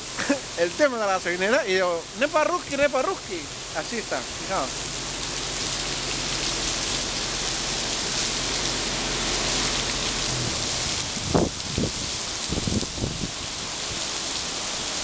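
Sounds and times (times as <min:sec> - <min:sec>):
heavy rain on concrete: 0:00.0 - 0:15.0.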